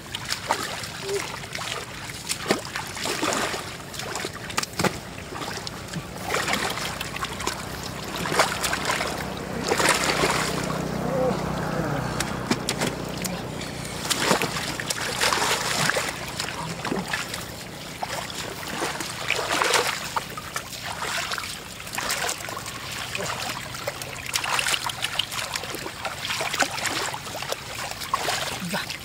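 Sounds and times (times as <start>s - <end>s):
splashing in shallow water: 0.0s - 29.0s
steady watery wash: 0.0s - 29.0s.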